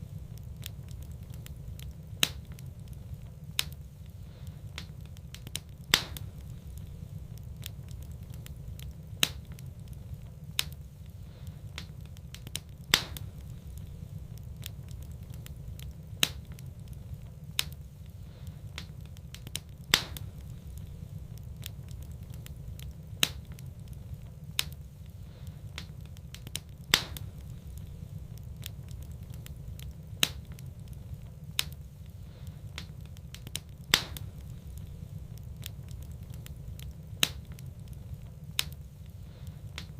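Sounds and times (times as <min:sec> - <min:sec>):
low rumble: 0:00.0 - 0:39.8
wood fire crackling: 0:00.0 - 0:39.9.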